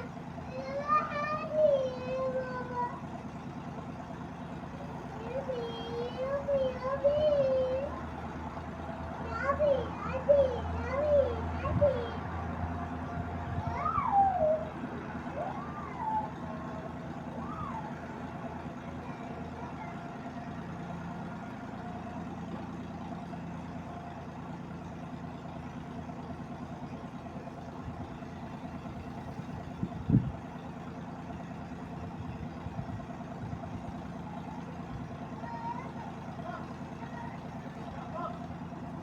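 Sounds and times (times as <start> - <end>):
low engine hum: 0.0 - 39.0.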